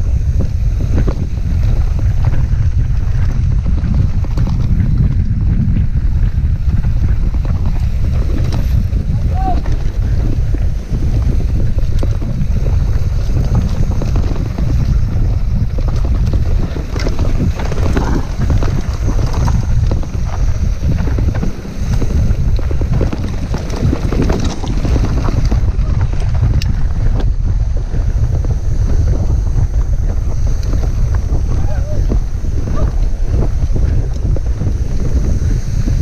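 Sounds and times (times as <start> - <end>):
bike clicks and rattles: 0.0 - 36.0
wind buffeting microphone: 0.0 - 36.0.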